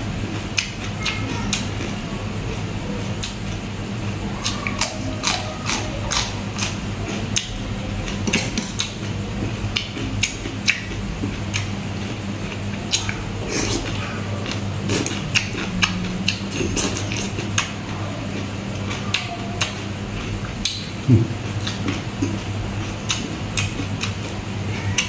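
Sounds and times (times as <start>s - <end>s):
steady low hum: 0.0s - 25.0s
chewing and crunching vegetables: 0.2s - 25.0s.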